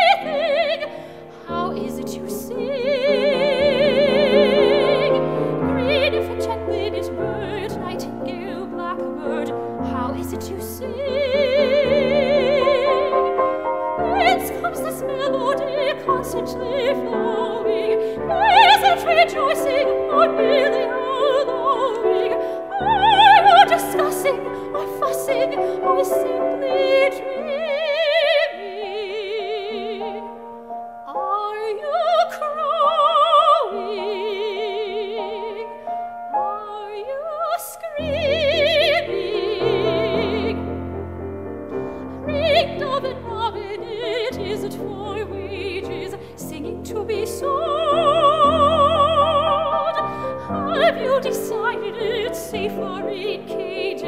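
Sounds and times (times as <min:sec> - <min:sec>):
piano accompaniment: 0:00.0 - 0:54.0
soprano singing with vibrato: 0:00.0 - 0:54.0.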